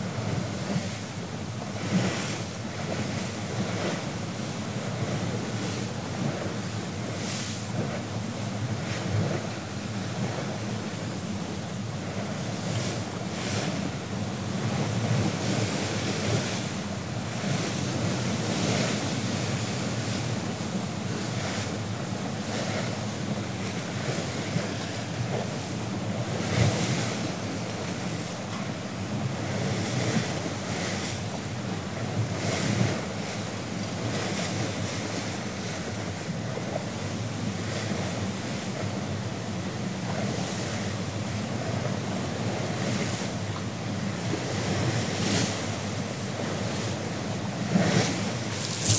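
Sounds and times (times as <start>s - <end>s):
bow wave splashing along hull: 0.0s - 48.9s.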